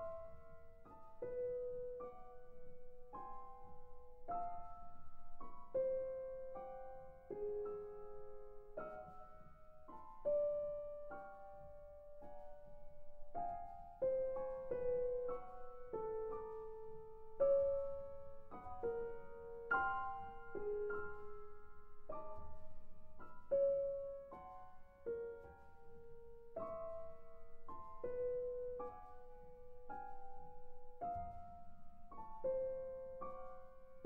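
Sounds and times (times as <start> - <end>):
slow solo piano music: 0.0 - 34.0.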